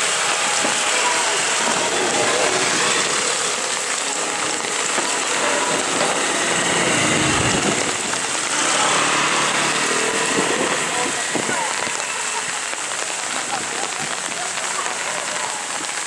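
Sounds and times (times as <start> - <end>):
scooter engine passing: 0.0 - 15.6
heavy rain on road: 0.0 - 16.0.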